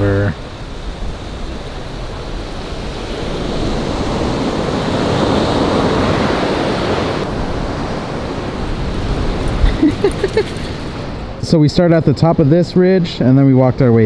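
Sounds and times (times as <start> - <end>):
ocean surf breaking on beach: 0.0 - 12.6.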